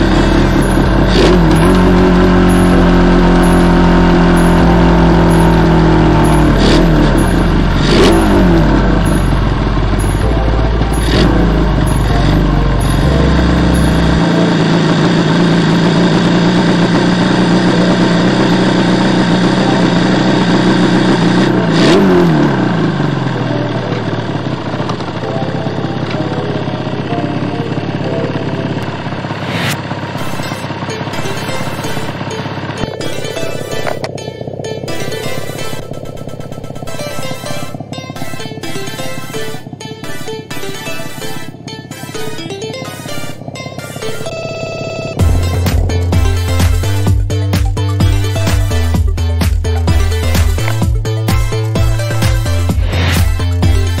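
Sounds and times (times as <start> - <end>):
two-stroke motorbike engine: 0.0 - 54.0.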